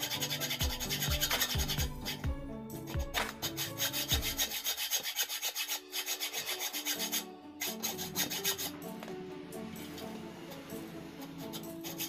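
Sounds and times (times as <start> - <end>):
hacksaw cutting metal: 0.0 - 12.0.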